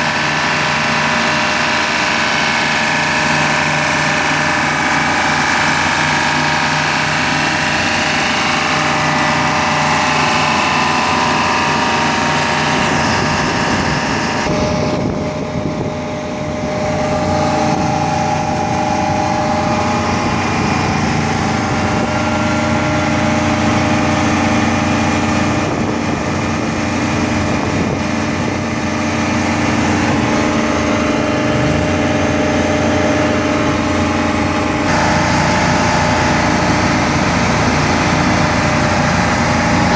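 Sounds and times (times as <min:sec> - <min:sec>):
diesel engine of road milling machine: 0:00.0 - 0:39.9.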